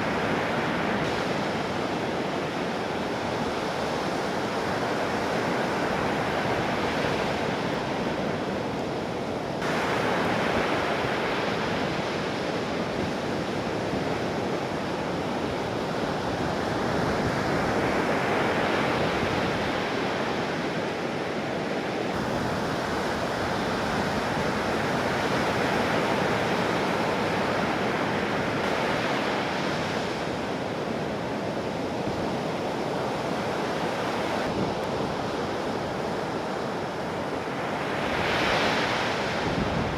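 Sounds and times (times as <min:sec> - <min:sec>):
heavy ocean surf breaking: 0:00.0 - 0:39.9
wind on microphone: 0:00.0 - 0:39.9.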